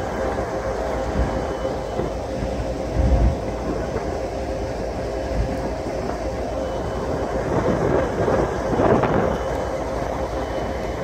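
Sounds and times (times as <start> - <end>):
faint steady tone: 0.0 - 11.0
freight train rumbling past: 0.0 - 11.0.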